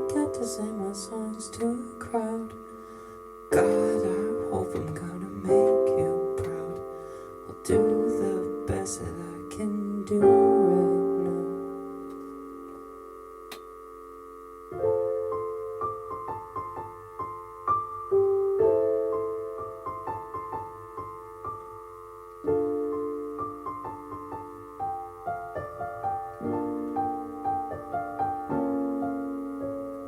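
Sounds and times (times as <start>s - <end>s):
piano chords and melody: 0.0s - 30.0s.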